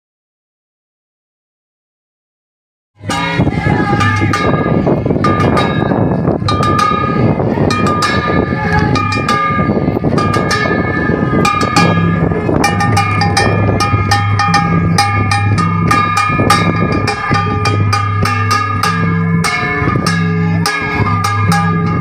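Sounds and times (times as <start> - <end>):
low drum beat: 3.0 - 22.0
sharp metallic clanging: 3.0 - 22.0
voices singing held notes: 3.0 - 22.0.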